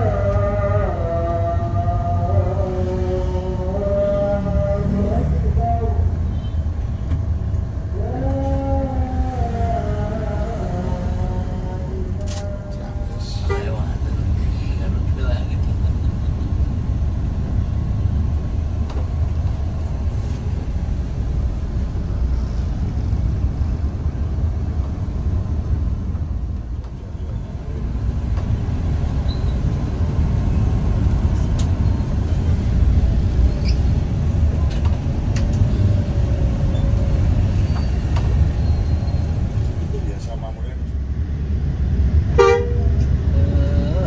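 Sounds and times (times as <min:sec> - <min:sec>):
bus engine rumble: 0:00.0 - 0:44.0
road noise: 0:00.0 - 0:44.0.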